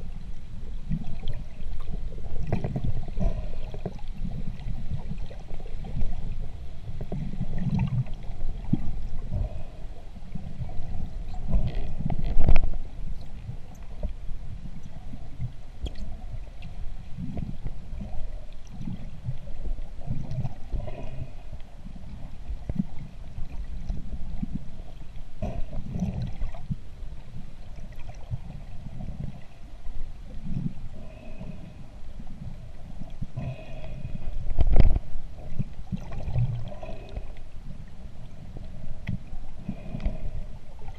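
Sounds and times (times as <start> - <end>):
underwater water rumbling: 0.0 - 40.9.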